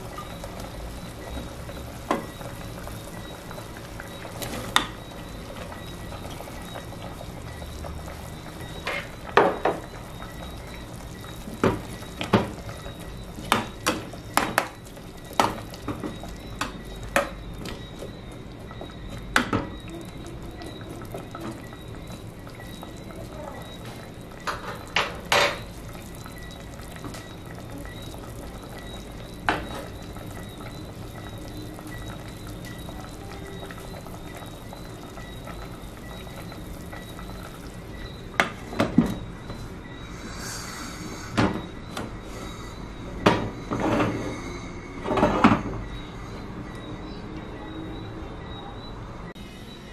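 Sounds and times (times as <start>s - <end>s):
faint simmering: 0.0s - 49.9s.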